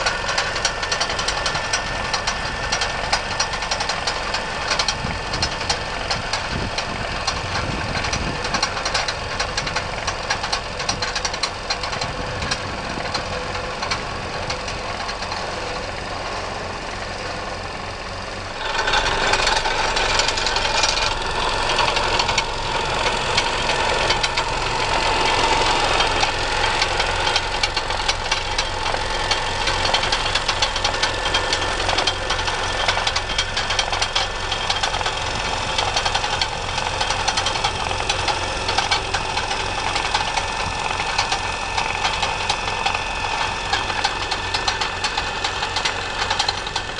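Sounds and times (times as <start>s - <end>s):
fast mechanical clatter: 0.0s - 46.9s
tractor engine running: 0.0s - 46.9s.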